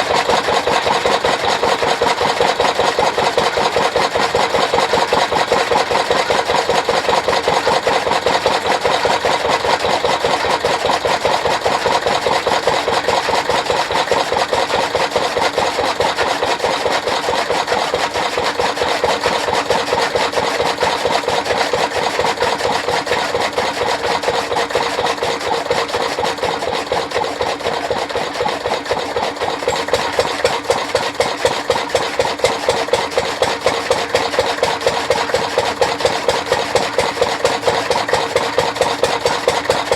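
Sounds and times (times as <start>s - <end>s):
engine running: 0.0s - 39.9s
machine clatter: 0.0s - 39.9s.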